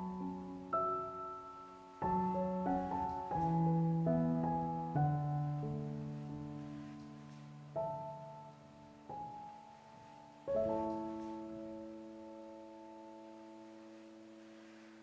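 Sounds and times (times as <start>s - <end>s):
soft solo piano chords: 0.0s - 15.0s.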